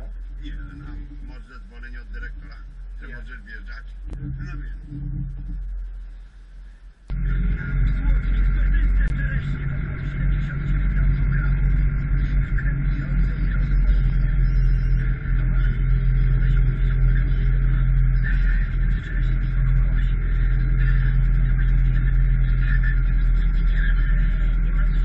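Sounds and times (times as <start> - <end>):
steady high whine: 0.0 - 25.0
tractor diesel engine drone: 0.0 - 25.0.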